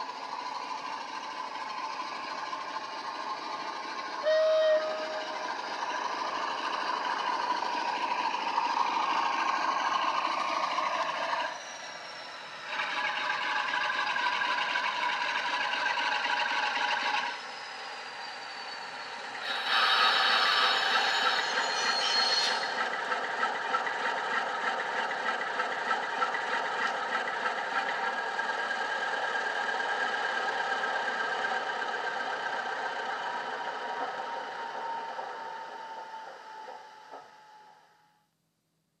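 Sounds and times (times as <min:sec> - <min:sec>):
diesel engine sound from small speaker: 0:00.0 - 0:37.9.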